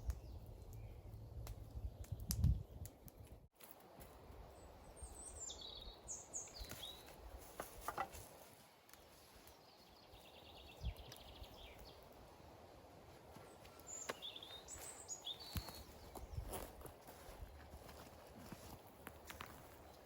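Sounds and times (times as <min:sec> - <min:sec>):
small songbirds chirping: 0:00.0 - 0:03.4, 0:04.4 - 0:20.0.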